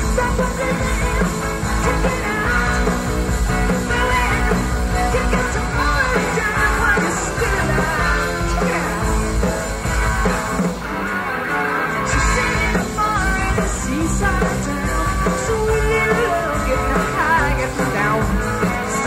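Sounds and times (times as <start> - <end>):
woman singing into a microphone: 0.0 - 9.1, 12.1 - 19.0
live rock band playing: 0.0 - 19.0.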